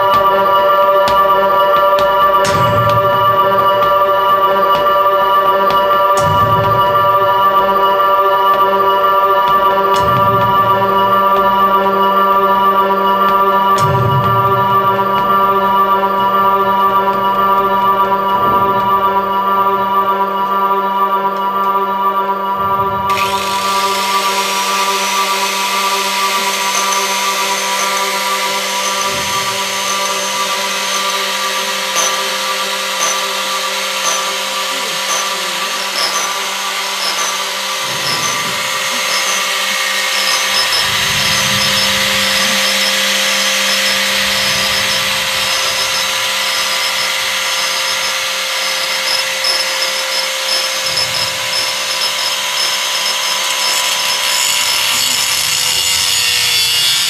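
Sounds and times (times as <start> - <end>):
held drone tones: 0.0 - 57.0.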